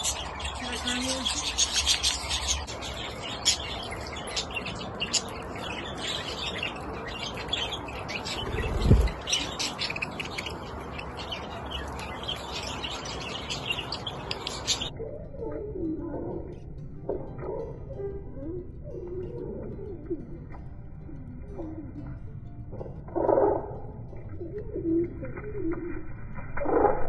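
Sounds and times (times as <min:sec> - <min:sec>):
birds chirping and twittering: 0:00.0 - 0:27.0.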